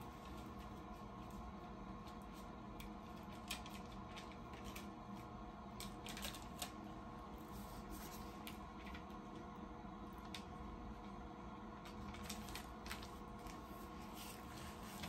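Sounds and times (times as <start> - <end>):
heat press humming: 0.0 - 15.0.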